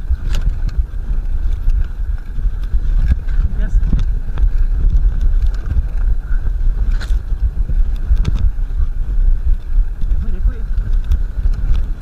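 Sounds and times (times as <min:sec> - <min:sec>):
bike clicks and rattles: 0:00.0 - 0:12.0
fat tyres rolling on snow: 0:00.0 - 0:12.0
wind buffeting microphone: 0:00.0 - 0:12.0.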